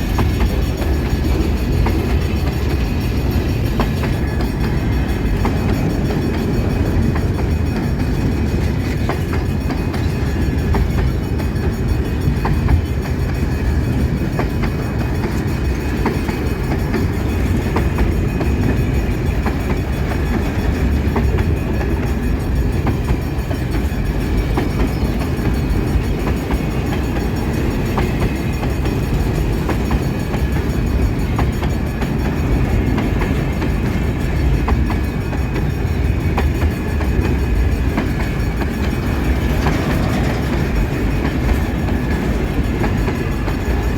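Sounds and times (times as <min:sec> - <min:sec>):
train wheels rumbling on rails: 0:00.0 - 0:43.9
wheels clicking over rail joints: 0:00.0 - 0:43.9.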